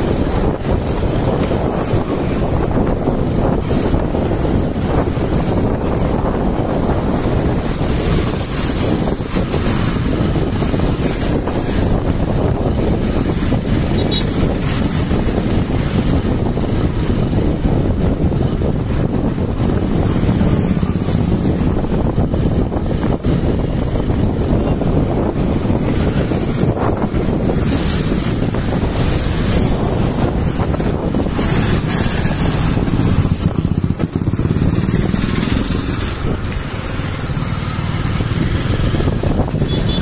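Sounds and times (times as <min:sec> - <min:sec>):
passing motorbikes and cars: 0:00.0 - 0:40.0
wind rumble on microphone: 0:00.0 - 0:40.0.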